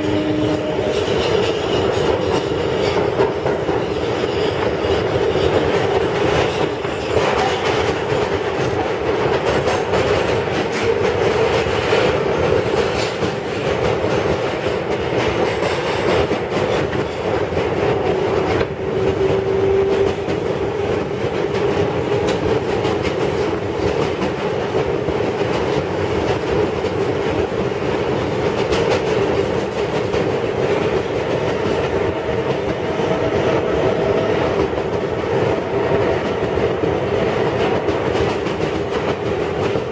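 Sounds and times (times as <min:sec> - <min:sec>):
subway wheels rumbling on rail: 0:00.0 - 0:39.9.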